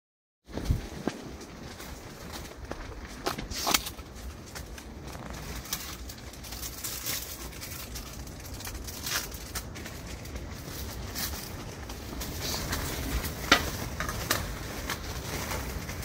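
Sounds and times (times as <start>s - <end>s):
tent fabric flapping in wind: 0.4s - 16.0s
low wind rumble: 0.5s - 16.0s.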